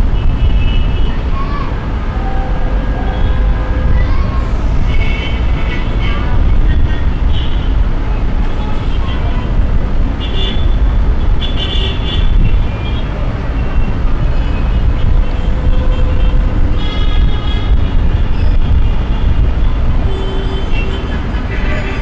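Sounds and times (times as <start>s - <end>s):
dense traffic rumble: 0.0s - 22.0s.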